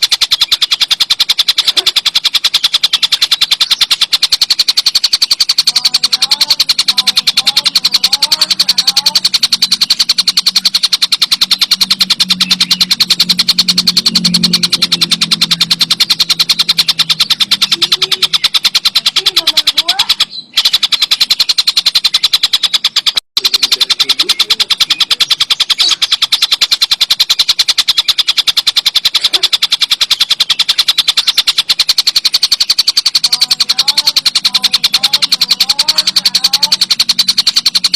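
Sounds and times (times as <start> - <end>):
bird fast rattling chatter: 0.0 - 37.9.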